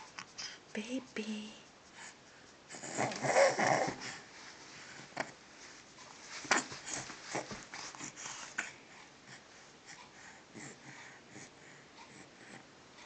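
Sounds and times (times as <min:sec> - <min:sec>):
baby sniffing and breathing: 0:00.0 - 0:00.7, 0:01.8 - 0:05.3, 0:06.1 - 0:12.6.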